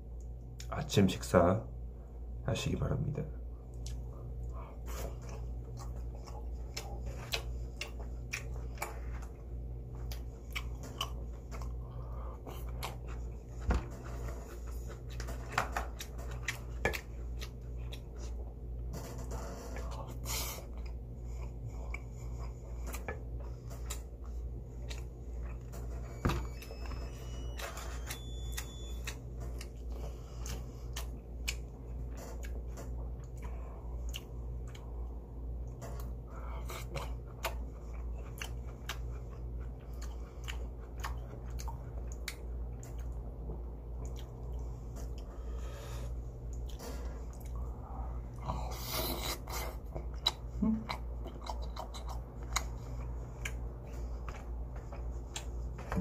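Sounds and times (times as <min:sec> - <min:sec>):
steady low hum: 0:00.0 - 0:56.0
person chewing: 0:03.6 - 0:56.0.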